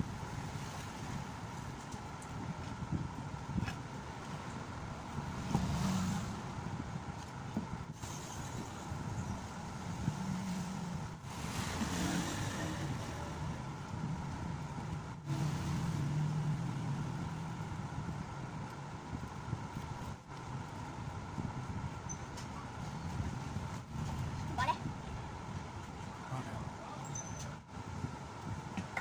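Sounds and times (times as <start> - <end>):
low rumble of engine traffic: 0.0 - 29.0.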